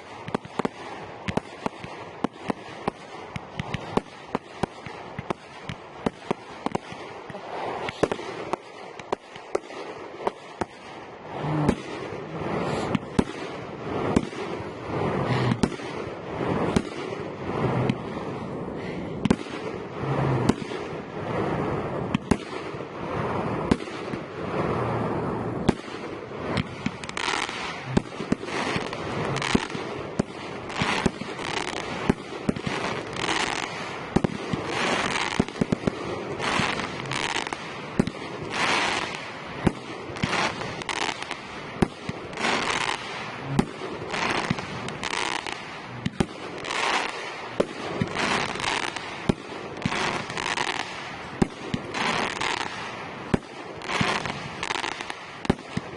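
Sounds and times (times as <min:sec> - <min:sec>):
fireworks hissing and crackling: 0:00.0 - 0:55.9.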